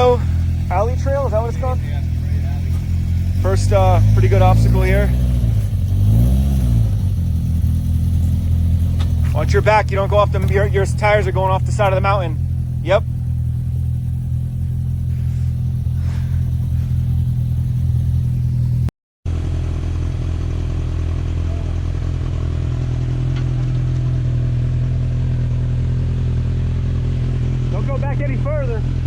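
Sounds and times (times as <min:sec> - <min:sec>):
utv engine running at low revs: 0:00.0 - 0:29.0.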